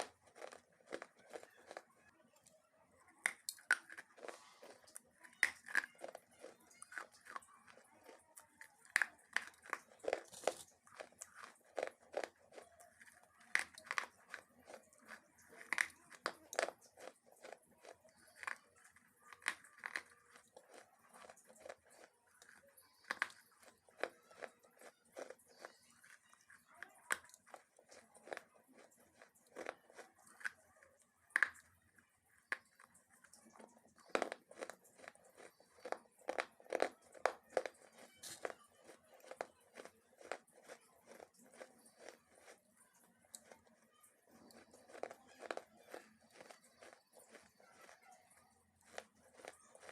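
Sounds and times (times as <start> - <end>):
crunchy food being chewed: 0.0 - 49.9.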